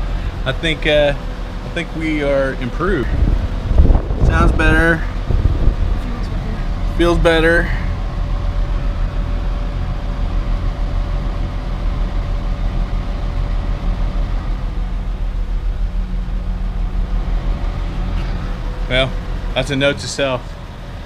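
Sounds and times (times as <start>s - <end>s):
blower fan air rushing: 0.0s - 21.0s
low hum: 0.0s - 21.0s.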